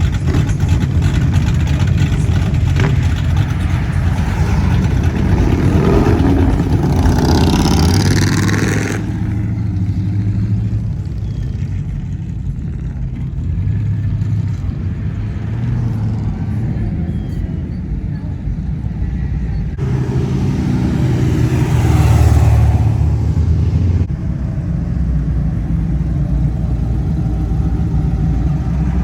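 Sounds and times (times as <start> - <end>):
car engine revving: 0.0 - 29.0
low engine rumble: 0.0 - 29.0.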